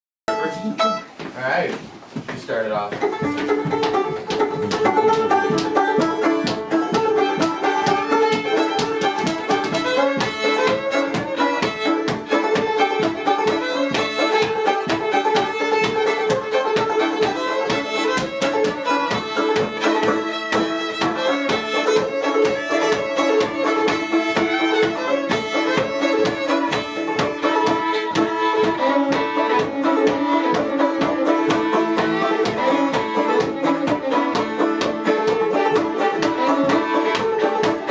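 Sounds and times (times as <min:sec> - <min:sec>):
plucked strings: 0:00.3 - 0:01.3, 0:02.9 - 0:37.9
fiddle playing dance tune: 0:00.3 - 0:37.9.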